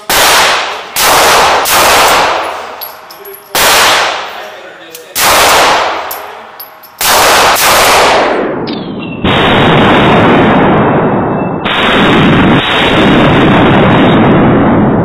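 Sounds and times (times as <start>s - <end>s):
pistol shots ringing indoors: 0.0s - 14.3s.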